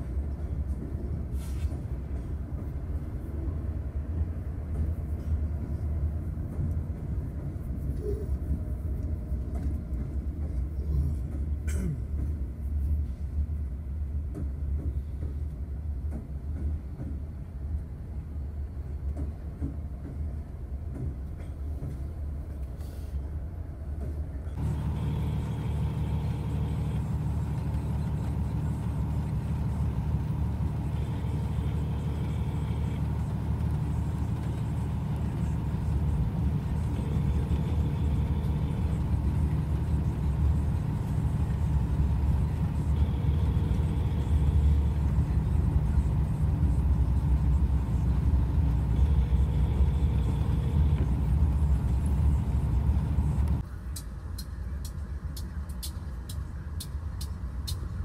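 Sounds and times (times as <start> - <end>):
diesel locomotives rumbling: 0.0 - 58.0
steady engine hum with tones: 0.0 - 58.0.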